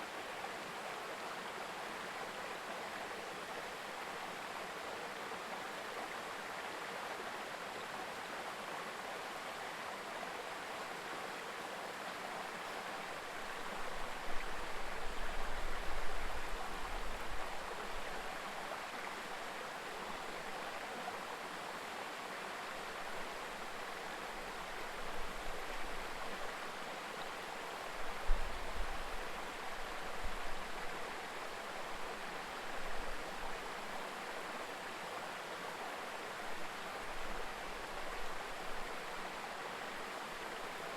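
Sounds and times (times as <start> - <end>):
river babbling: 0.0 - 40.9.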